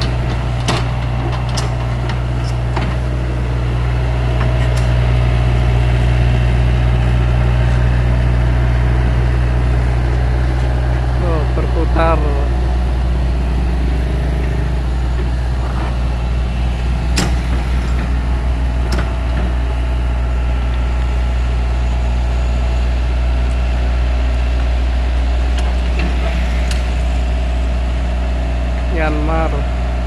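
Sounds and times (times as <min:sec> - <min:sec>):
excavator diesel engine droning: 0:00.0 - 0:30.0.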